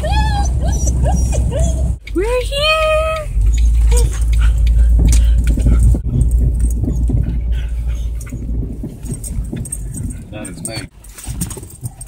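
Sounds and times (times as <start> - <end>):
low rumble inside car: 0.0 - 10.9
clicks and rustles: 2.0 - 12.0
collar tags jangling: 2.2 - 12.0.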